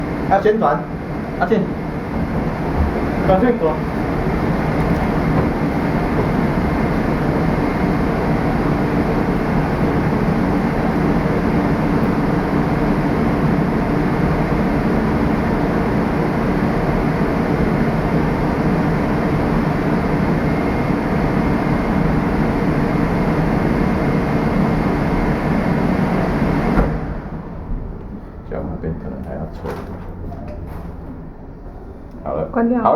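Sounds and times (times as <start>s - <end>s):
low fan hum: 0.0s - 32.9s.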